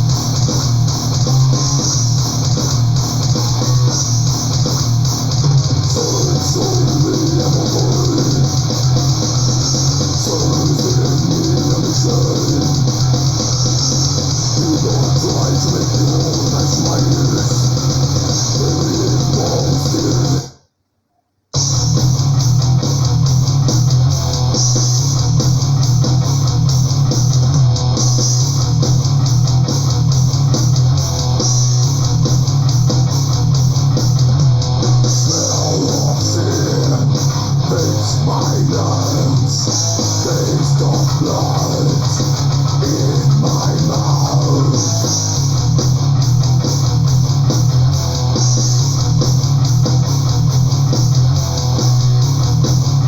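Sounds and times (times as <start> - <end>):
metal music with distorted guitars: 0.0 - 20.5, 21.6 - 53.0.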